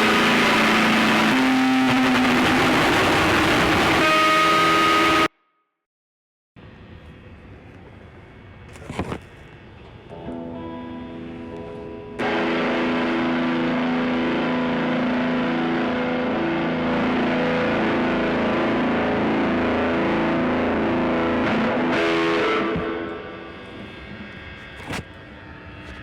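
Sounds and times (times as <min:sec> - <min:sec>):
distorted drone music: 0:00.0 - 0:05.3, 0:10.1 - 0:26.0.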